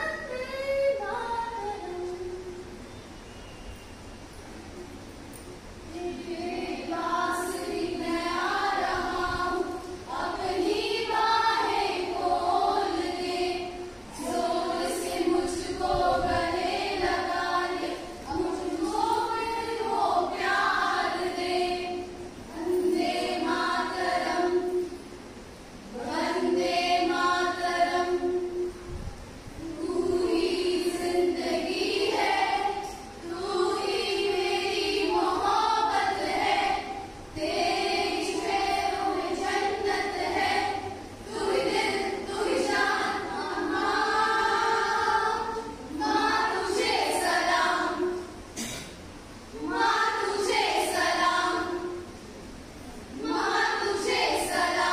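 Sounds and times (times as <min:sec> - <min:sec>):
women singing together: 0:00.0 - 0:02.8, 0:05.8 - 0:28.9, 0:29.5 - 0:48.8, 0:49.5 - 0:52.3, 0:53.0 - 0:54.9.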